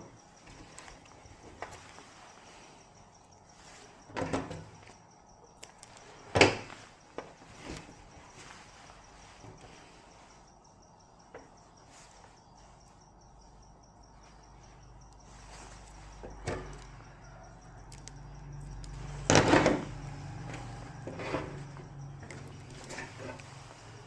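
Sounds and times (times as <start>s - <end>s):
faint insect chirping: 0.0s - 24.0s.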